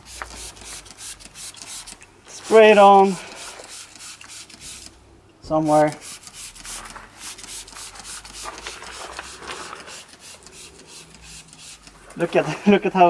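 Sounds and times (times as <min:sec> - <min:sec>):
spray can hissing bursts: 0:00.0 - 0:05.0, 0:05.6 - 0:12.6.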